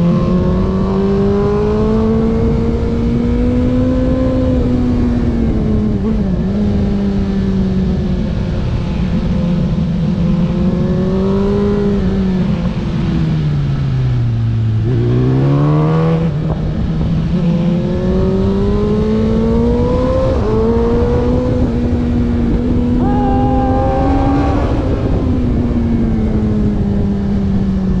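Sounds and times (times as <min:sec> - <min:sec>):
race car engine: 0:00.0 - 0:28.0
wind and road noise: 0:00.0 - 0:28.0.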